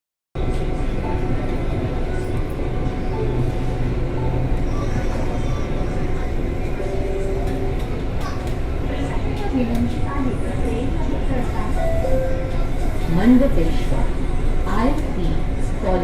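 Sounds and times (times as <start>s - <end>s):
train wheels and motors rumbling: 0.4s - 16.0s.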